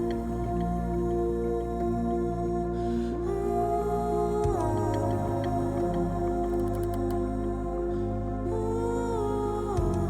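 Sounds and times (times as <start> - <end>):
soft new-age chords: 0.0 - 10.0.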